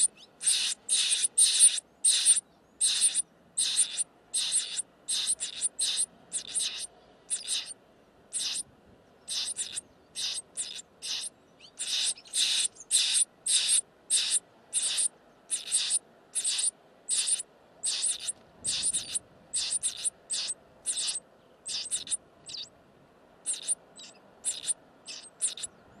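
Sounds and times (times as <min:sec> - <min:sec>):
nestling birds screeching: 0:00.0 - 0:08.6, 0:09.3 - 0:22.7, 0:23.5 - 0:25.7.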